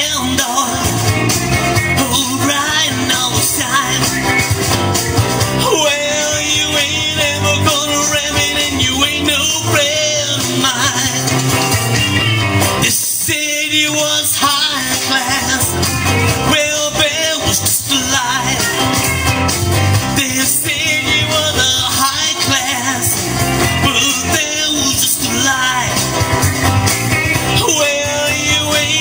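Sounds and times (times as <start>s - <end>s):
rock band music: 0.0s - 29.0s.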